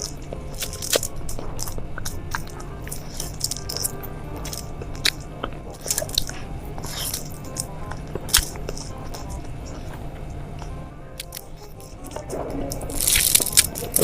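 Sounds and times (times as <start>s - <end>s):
crunching bites and chewing: 0.0s - 10.0s, 11.2s - 14.0s
background music: 0.0s - 14.0s.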